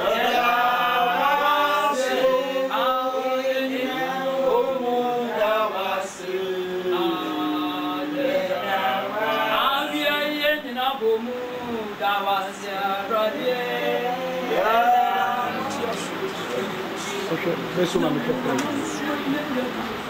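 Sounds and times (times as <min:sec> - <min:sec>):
voices singing slow chant: 0:00.0 - 0:17.5.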